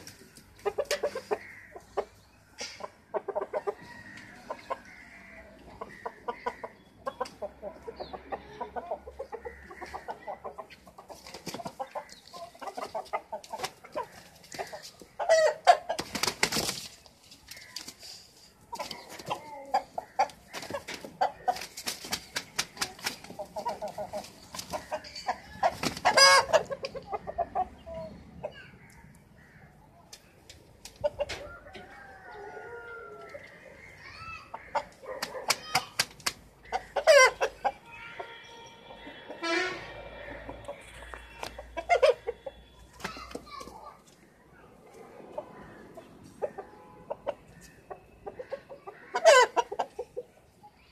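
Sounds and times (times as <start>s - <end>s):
chickens calling loudly: 0.0s - 50.9s
chickens clucking: 0.0s - 50.9s.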